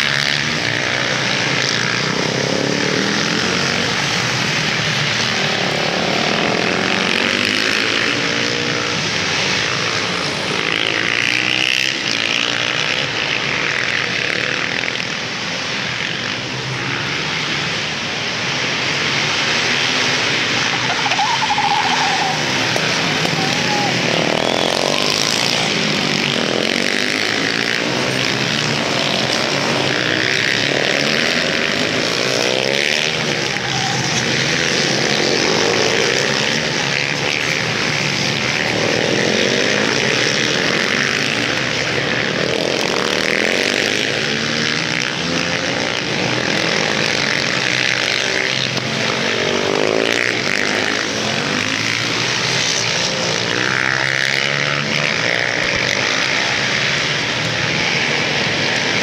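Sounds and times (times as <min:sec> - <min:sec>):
racing motorcycles revving: 0:00.0 - 0:59.0.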